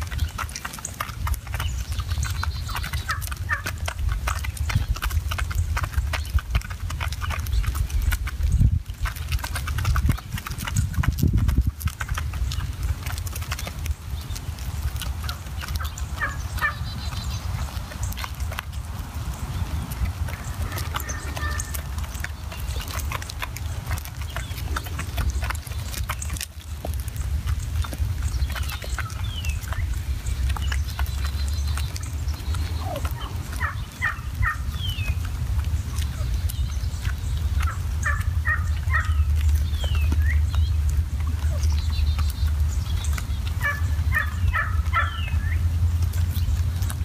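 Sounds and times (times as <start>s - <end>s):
turkey calls: 0.0s - 7.9s, 15.0s - 47.0s
low rumble: 0.0s - 47.0s
turkeys pecking on gravel: 0.0s - 47.0s.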